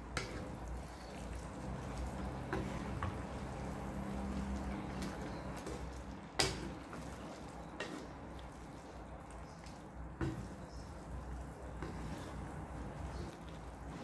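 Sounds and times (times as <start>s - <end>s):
spatula stirring noodles in broth: 0.0s - 14.0s.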